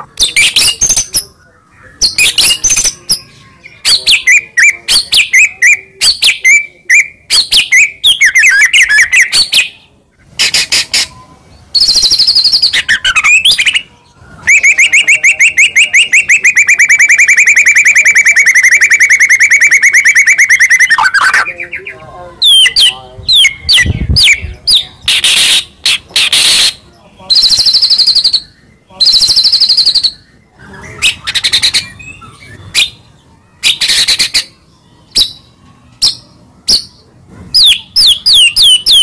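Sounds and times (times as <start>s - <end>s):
bird trill: 0.2s - 9.8s, 10.4s - 37.0s, 37.6s - 39.0s
bird singing whistled phrases: 0.3s - 9.8s, 10.4s - 37.0s, 37.6s - 39.0s.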